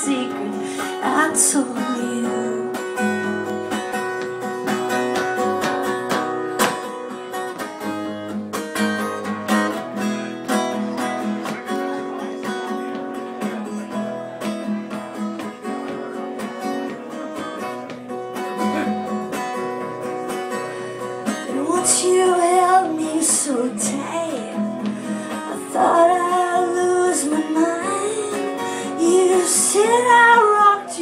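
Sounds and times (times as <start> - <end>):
acoustic guitar strummed and picked: 0.0 - 31.0.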